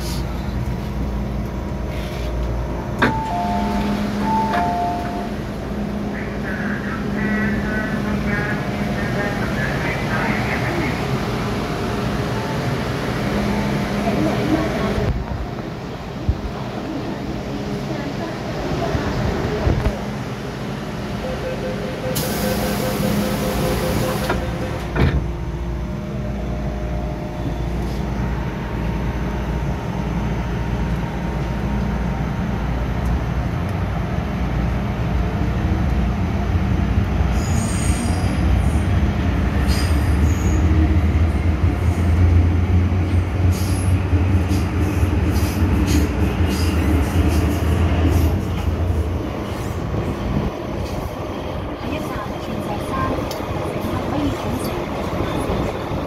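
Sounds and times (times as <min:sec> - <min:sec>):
train wheel and rail rumble: 0:00.0 - 0:56.0.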